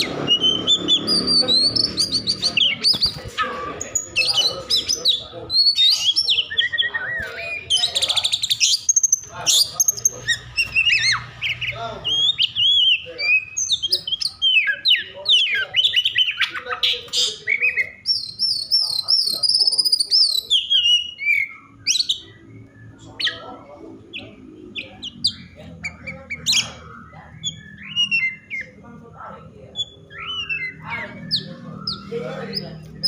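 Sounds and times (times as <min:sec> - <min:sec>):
bird singing whistled notes: 0:00.0 - 0:16.6, 0:17.4 - 0:28.8, 0:29.7 - 0:33.0.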